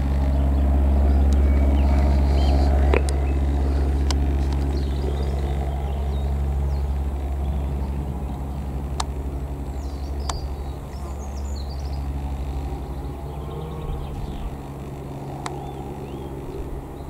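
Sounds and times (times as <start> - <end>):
birds chirping: 0.0 - 17.0
light aircraft engine droning: 0.0 - 17.0.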